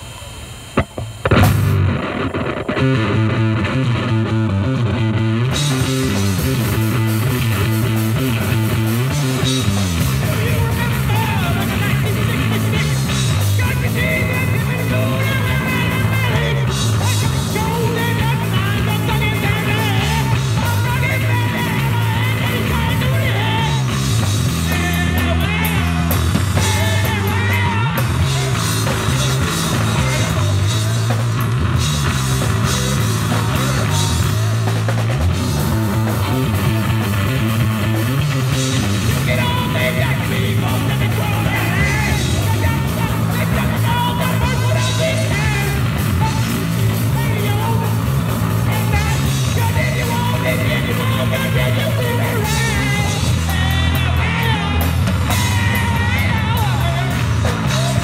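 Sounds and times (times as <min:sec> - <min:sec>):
distorted electric bass: 0:00.0 - 0:58.0
drum kit: 0:00.8 - 0:58.0
person singing: 0:02.8 - 0:58.0.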